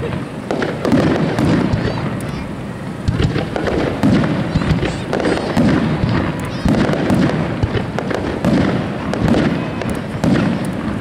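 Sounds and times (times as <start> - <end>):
fireworks booming: 0.0 - 11.0
sharp fireworks cracks: 0.0 - 11.0.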